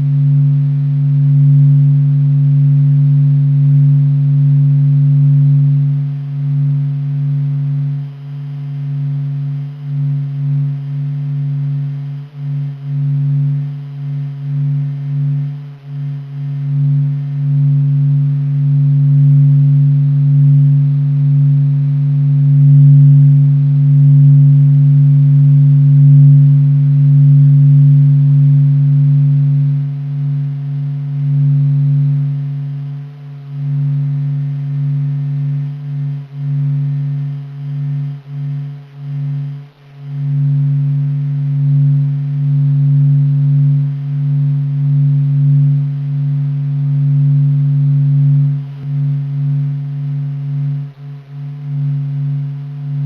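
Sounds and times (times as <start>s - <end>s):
low droning hum: 0.0s - 53.0s.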